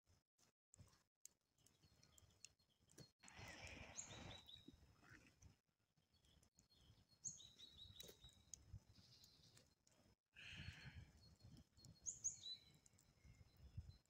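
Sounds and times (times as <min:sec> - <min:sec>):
small birds chirping: 0:00.7 - 0:14.0.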